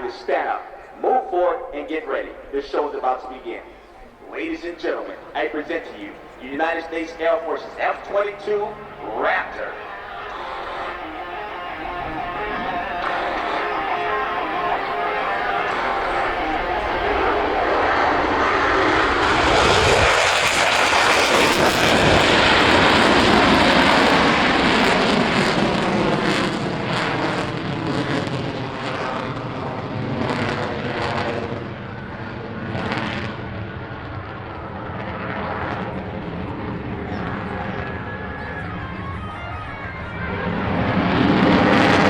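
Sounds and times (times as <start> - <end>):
jet roar during take-off: 2.2 - 42.0.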